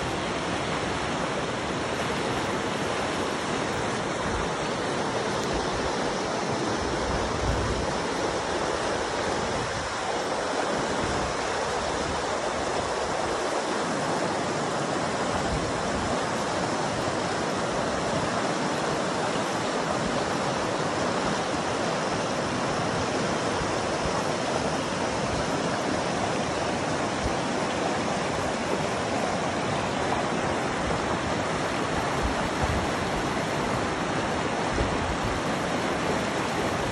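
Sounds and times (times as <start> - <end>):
river rushing over rocks: 0.0 - 36.9.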